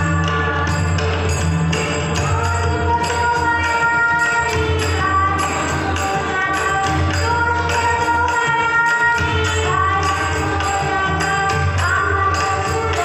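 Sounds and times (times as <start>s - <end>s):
hand drums playing: 0.0s - 13.0s
harmonium melody: 0.0s - 13.0s
metallic jingle: 0.0s - 13.0s.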